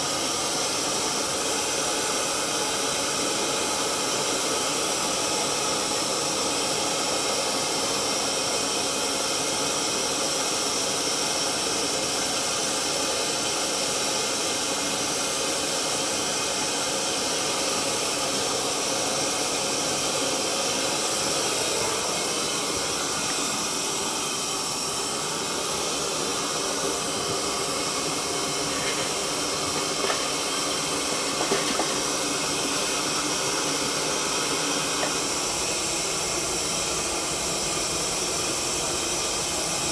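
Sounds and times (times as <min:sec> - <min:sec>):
kiln burner rushing hiss: 0:00.0 - 0:39.9.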